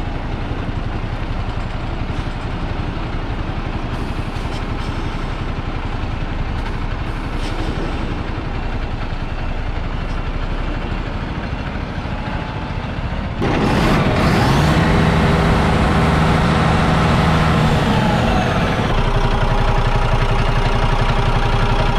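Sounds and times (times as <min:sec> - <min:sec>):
diesel truck engine idling and revving: 0:00.0 - 0:21.9.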